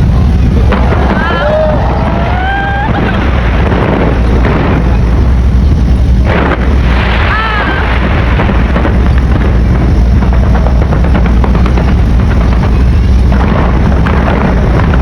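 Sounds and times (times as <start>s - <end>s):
crowd voices: 0.0s - 14.3s
fireworks bangs and crackles: 0.0s - 15.0s
low rumble of booms: 0.0s - 15.0s.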